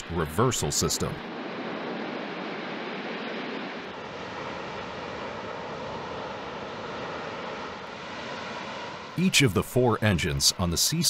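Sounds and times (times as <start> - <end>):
jet engines taxiing: 0.0 - 8.4, 9.0 - 11.0.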